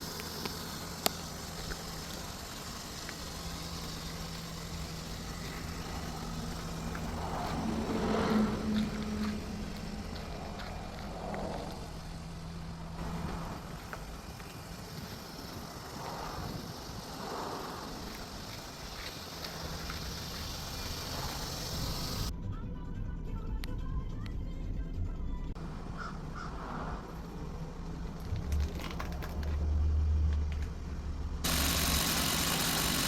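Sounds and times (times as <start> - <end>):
traffic passing: 0.0 - 22.3, 25.5 - 33.0
steady low vehicle hum: 0.0 - 33.0.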